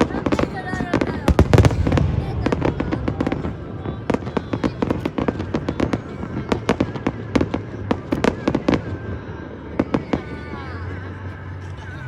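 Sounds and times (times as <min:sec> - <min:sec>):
fireworks bangs and crackles: 0:00.0 - 0:11.6.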